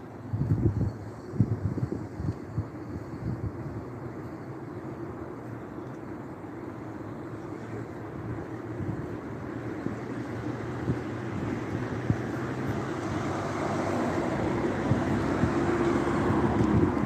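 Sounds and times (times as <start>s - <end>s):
vehicle humming drone: 0.0s - 17.0s.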